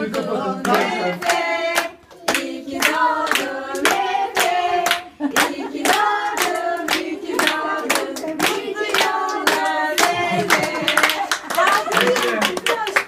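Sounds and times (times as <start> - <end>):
group singing: 0.0 - 11.4
people clapping in time: 0.1 - 13.0.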